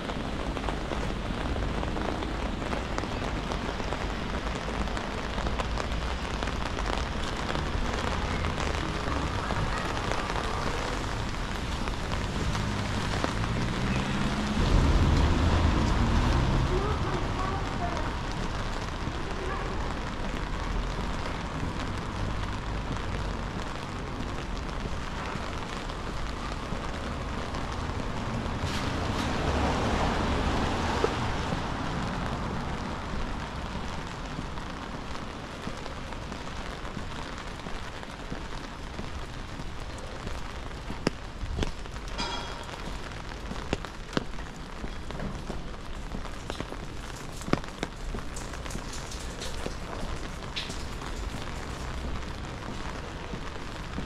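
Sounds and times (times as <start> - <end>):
rain falling on street: 0.0 - 54.0.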